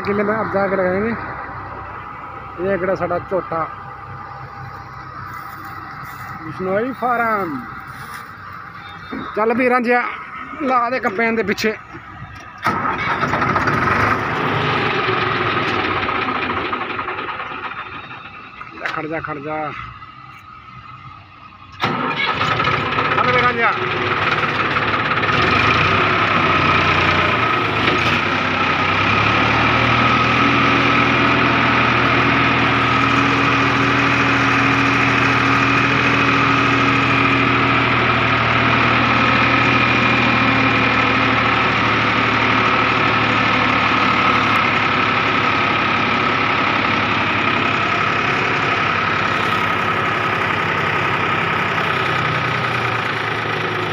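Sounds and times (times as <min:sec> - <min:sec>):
deeper engine note: 0:00.0 - 0:53.9
tractor diesel engine running: 0:00.0 - 0:53.9.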